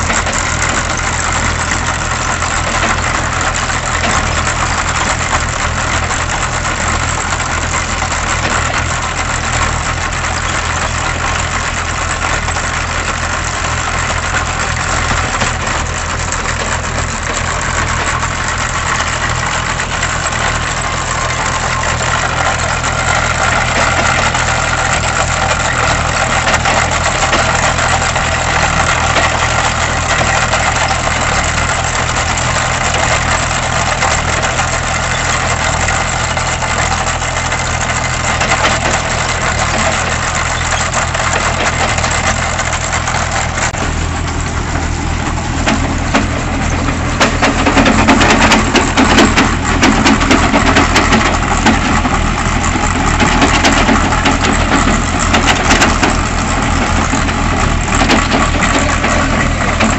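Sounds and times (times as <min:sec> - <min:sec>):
digging chain grinding and clattering: 0:00.0 - 0:59.9
tractor engine running: 0:00.0 - 0:59.9.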